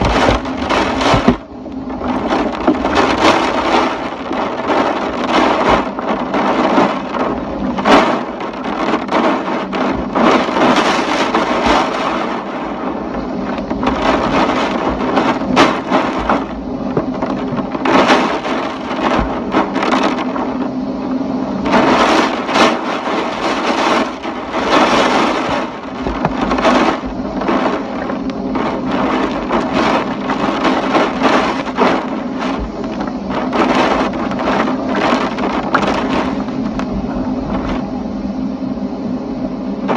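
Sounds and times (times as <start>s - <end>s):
sharp cracks and knocks: 0.0s - 20.7s, 21.6s - 36.9s
gusting wind: 0.0s - 39.9s
rain: 0.0s - 39.9s.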